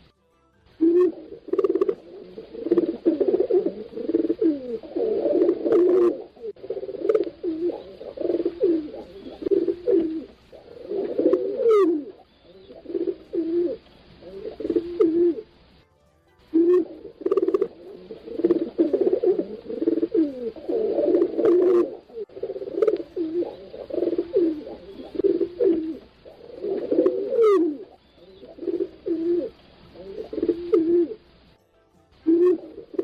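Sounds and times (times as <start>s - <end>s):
pigeons cooing: 0.8s - 15.6s, 16.5s - 31.4s, 32.2s - 33.0s.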